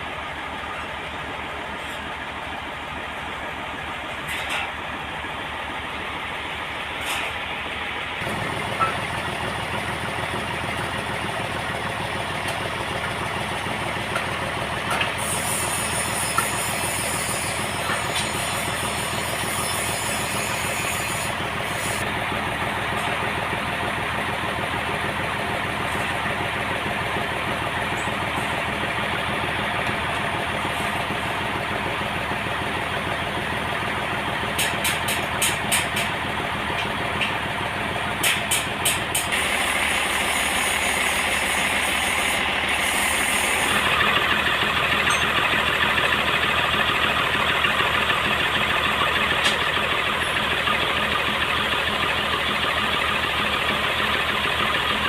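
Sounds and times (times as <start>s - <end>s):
sawmill engine droning: 0.0s - 55.0s.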